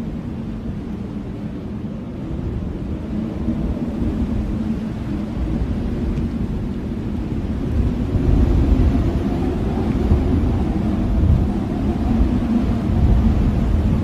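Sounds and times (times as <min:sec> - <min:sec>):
strong blizzard wind: 0:00.0 - 0:14.0.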